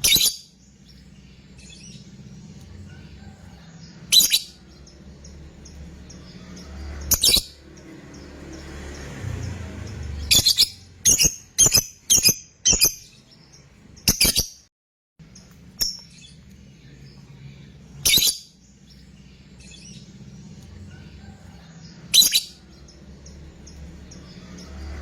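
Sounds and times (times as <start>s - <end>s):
bird shrill chirping calls: 0.0s - 14.6s, 15.4s - 25.0s.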